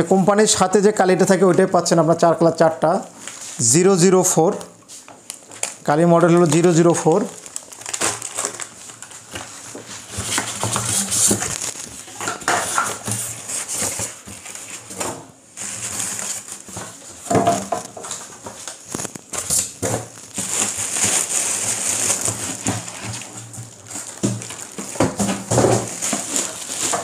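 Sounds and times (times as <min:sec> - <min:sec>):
plastic wrapping crinkling: 0:00.0 - 0:27.0.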